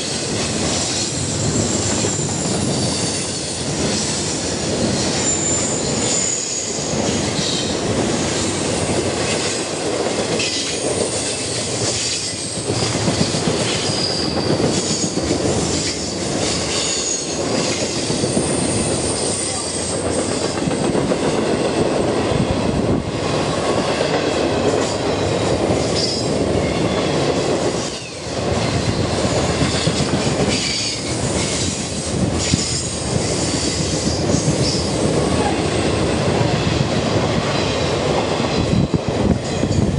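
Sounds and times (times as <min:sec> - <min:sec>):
wheels squealing on rails: 0:00.0 - 0:09.6, 0:10.4 - 0:20.9, 0:24.7 - 0:36.8
train rumbling and rattling: 0:00.0 - 0:39.9.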